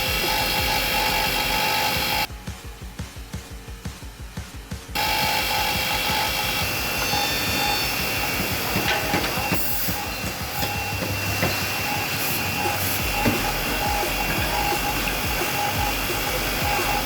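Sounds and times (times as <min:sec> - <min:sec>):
saw and drill motors whirring: 0:00.0 - 0:02.3, 0:04.3 - 0:17.0.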